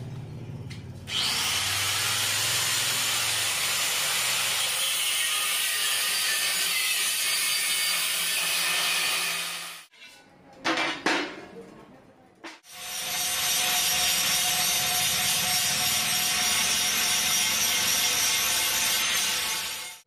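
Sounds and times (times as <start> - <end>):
angle grinder cutting steel: 1.1 - 9.9, 12.7 - 20.0.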